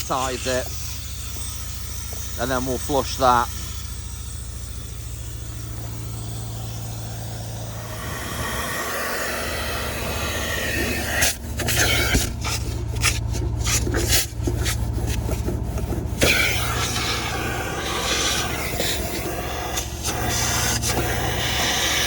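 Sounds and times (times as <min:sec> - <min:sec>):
vacuum motor hum: 0:00.0 - 0:22.0
water sucking hiss: 0:00.0 - 0:22.0.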